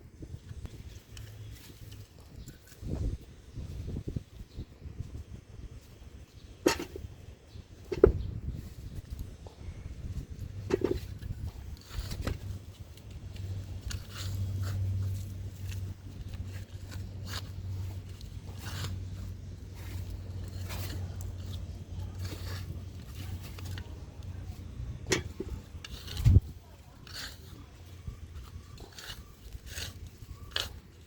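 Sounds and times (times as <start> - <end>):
low steady hum: 0.0 - 31.0
shovel scraping garden soil: 5.9 - 31.0.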